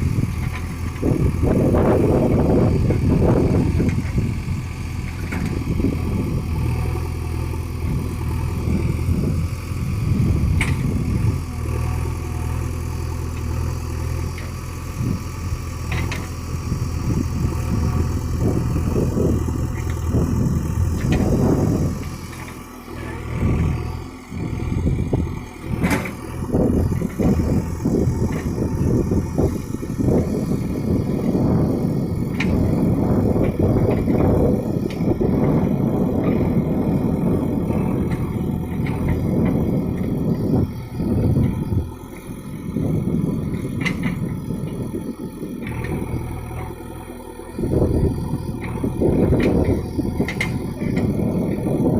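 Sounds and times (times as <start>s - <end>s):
backhoe diesel engine running: 0.0s - 51.9s.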